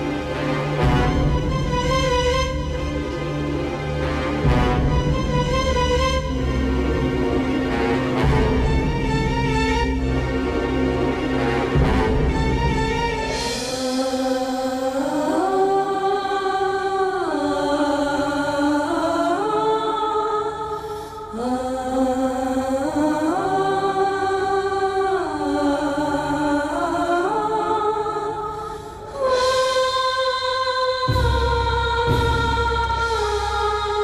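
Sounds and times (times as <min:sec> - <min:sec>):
slow film music: 0:00.0 - 0:34.0.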